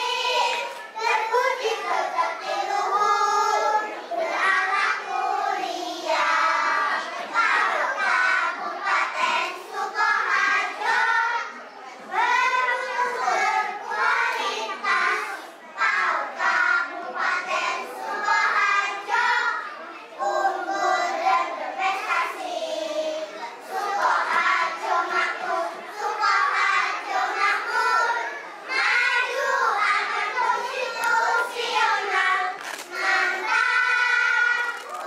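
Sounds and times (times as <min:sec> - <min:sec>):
children's choir singing: 0:00.0 - 0:35.0.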